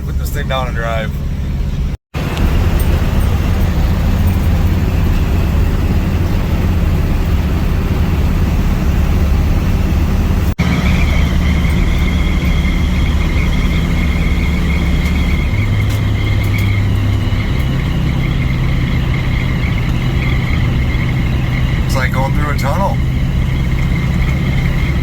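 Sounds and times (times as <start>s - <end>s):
steady high whine: 0.0s - 25.0s
truck engine and road drone: 0.0s - 25.0s.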